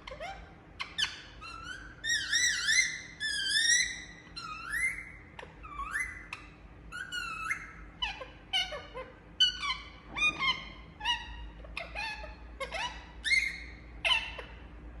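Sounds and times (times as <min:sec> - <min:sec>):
parrot chirping calls: 0:00.0 - 0:14.9.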